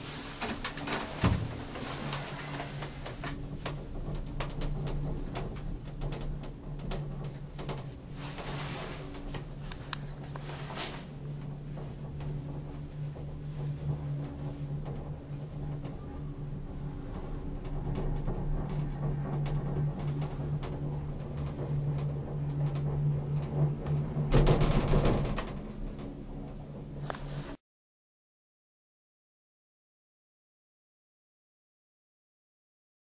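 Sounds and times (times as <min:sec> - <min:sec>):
cable car cabin humming: 0:00.0 - 0:27.6
small clicks and creaks: 0:00.3 - 0:27.6.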